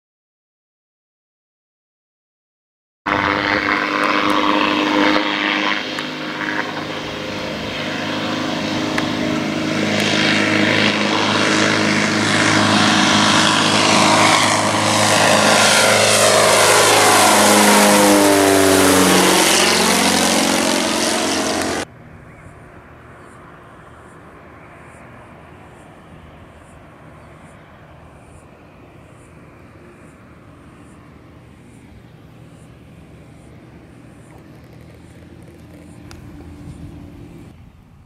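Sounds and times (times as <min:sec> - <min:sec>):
light propeller aircraft flying past: 0:03.1 - 0:38.0.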